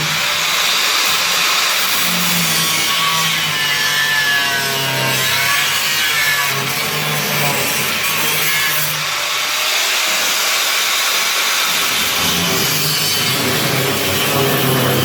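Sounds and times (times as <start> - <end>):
power tool grinding sheet steel: 0.0 - 15.0.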